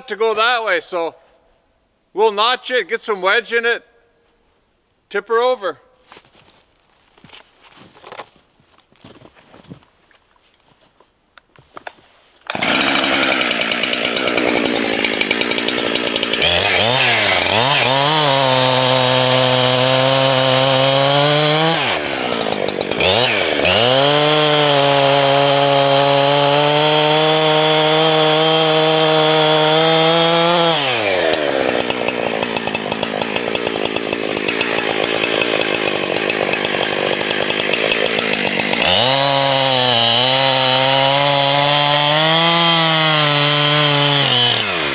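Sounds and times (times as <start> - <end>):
chainsaw cutting wood: 6.1 - 44.9.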